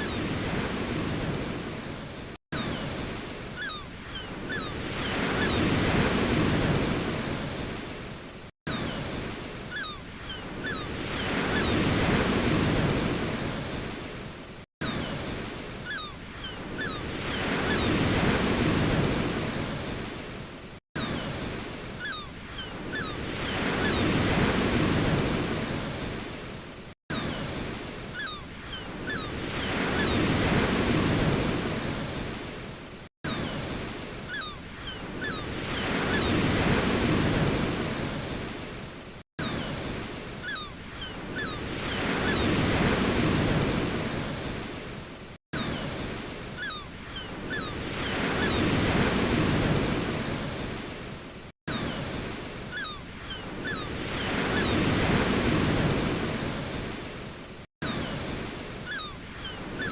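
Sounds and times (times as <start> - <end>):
ocean waves washing onto shore: 0.0 - 59.9.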